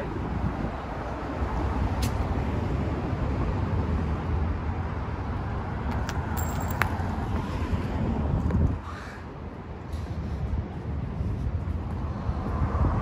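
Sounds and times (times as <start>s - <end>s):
low rumble of passing cars: 0.0s - 13.0s.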